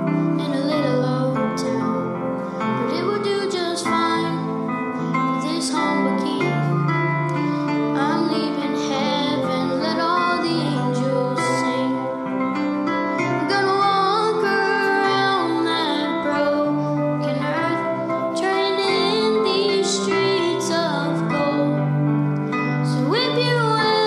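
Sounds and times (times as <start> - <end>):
boy singing gospel song: 0.0 - 22.0, 22.6 - 24.0
grand piano: 0.0 - 24.0.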